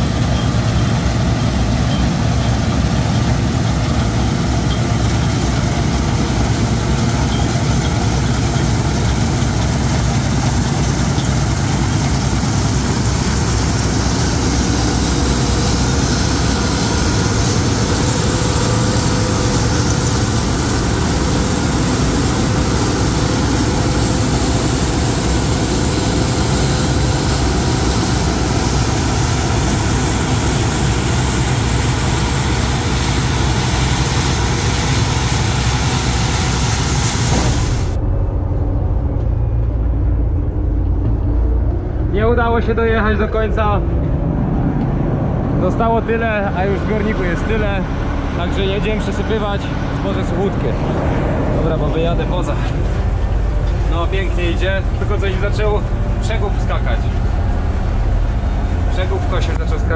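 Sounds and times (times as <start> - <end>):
combine harvester running: 0.0 - 59.9
low rumble: 0.0 - 59.9.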